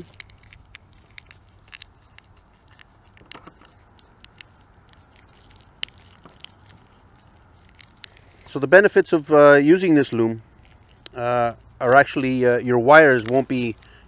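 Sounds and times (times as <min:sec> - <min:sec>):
plastic cable wrap clicking: 0:00.0 - 0:08.6, 0:10.5 - 0:12.4, 0:13.0 - 0:13.9.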